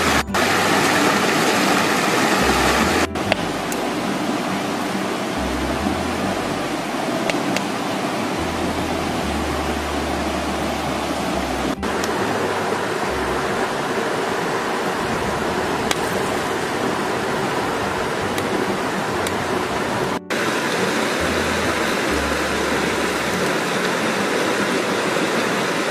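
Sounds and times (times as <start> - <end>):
river rushing over stones: 0.0 - 25.9.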